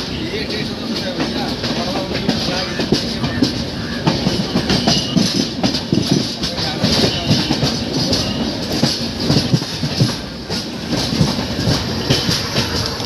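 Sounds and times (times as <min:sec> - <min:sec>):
train rumble: 0:00.0 - 0:13.0
train wheels clattering: 0:00.0 - 0:13.0.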